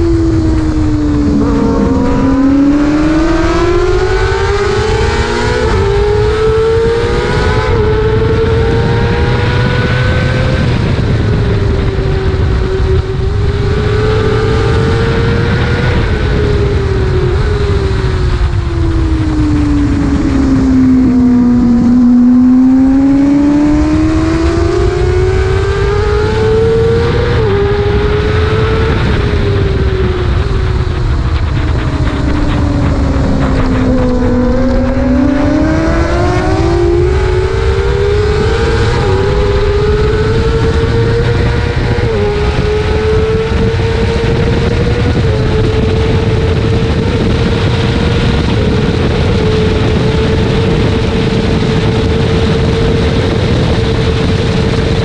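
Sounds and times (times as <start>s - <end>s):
motorcycle engine at high revs: 0.0s - 55.0s
wind noise: 0.0s - 55.0s.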